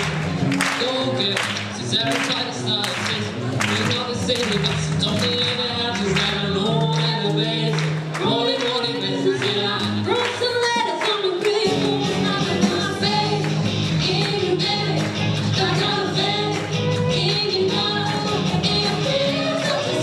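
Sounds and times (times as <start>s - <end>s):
drums: 0.0s - 20.0s
live band playing: 0.0s - 20.0s
person singing: 0.6s - 20.0s.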